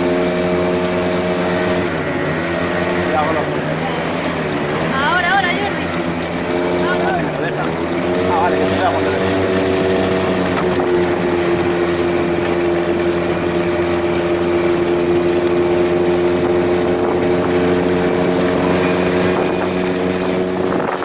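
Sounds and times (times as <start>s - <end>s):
small engine running: 0.0s - 21.0s
traffic noise: 0.0s - 21.0s.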